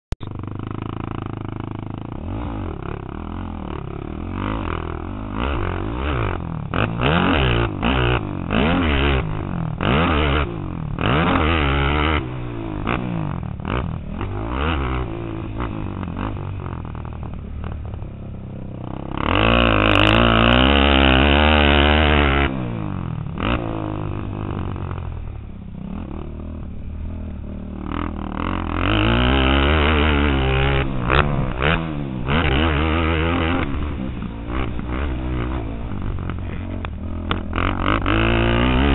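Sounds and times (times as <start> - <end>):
quad engine revving: 0.2 - 38.9.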